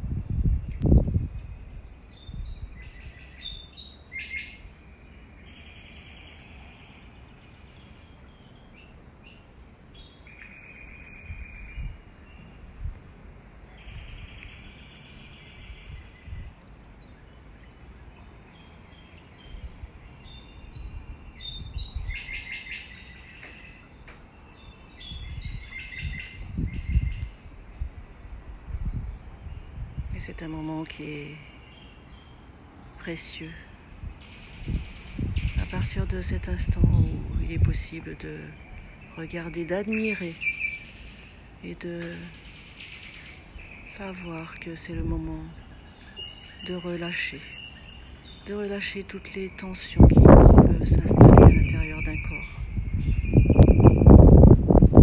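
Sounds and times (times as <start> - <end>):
small birds chirping and trilling: 0.3 - 55.0.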